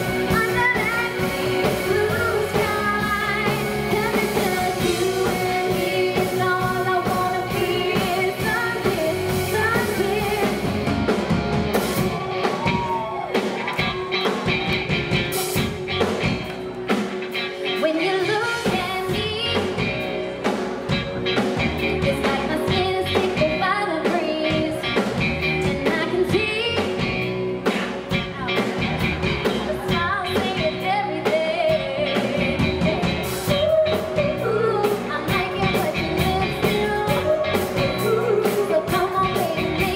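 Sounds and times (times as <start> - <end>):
woman singing: 0.0 - 11.1, 17.6 - 20.4, 21.8 - 39.9
drum kit: 0.0 - 39.9
electric bass: 0.0 - 39.9
electric guitar: 0.0 - 39.9.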